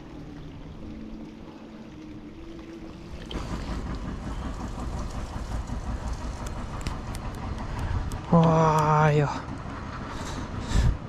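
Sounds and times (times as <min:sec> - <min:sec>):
bicycle tyres rumbling and rattling: 0:00.0 - 0:11.0.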